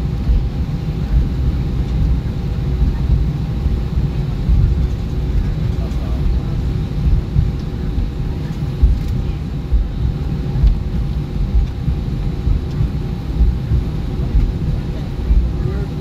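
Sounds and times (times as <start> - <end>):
airliner cabin rumble: 0.0 - 16.0
faint steady hum: 0.0 - 16.0.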